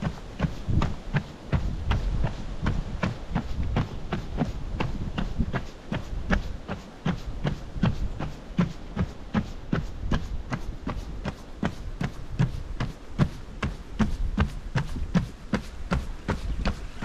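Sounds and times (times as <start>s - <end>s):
footfalls on wooden boardwalk: 0.0s - 17.0s.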